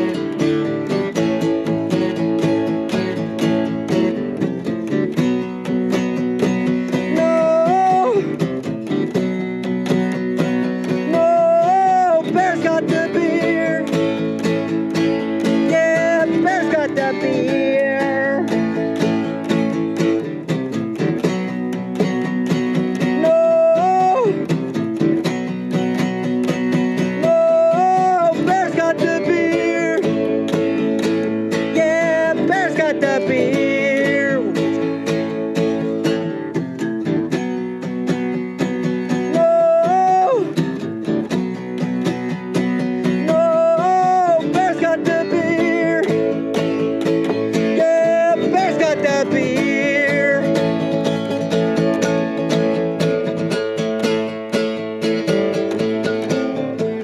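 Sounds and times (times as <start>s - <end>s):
acoustic bass guitar: 0.0s - 57.0s
acoustic guitar strumming: 0.0s - 57.0s.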